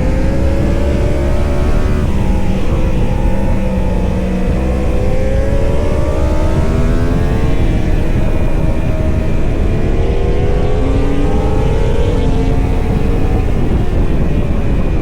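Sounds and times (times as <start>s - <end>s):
heavy low rumble: 0.0s - 15.0s
superbike engine revving: 0.0s - 15.0s.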